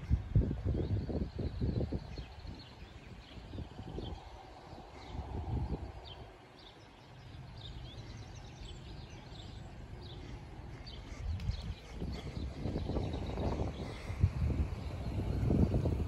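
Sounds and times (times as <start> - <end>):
low outdoor rumble: 0.0 - 16.0
small birds chirping: 0.6 - 16.0.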